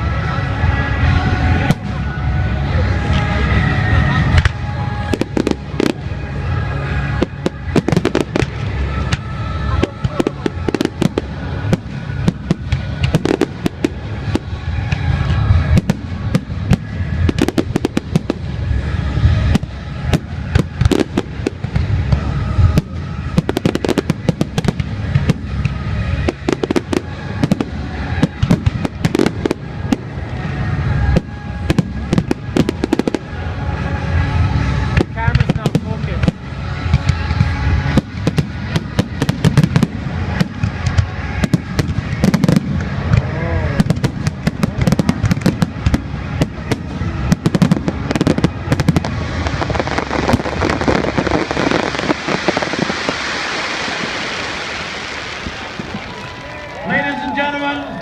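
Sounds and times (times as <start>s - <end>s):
deep fireworks booms: 0.0s - 57.4s
fireworks bangs and crackles: 0.0s - 58.0s
music playing: 0.0s - 58.0s.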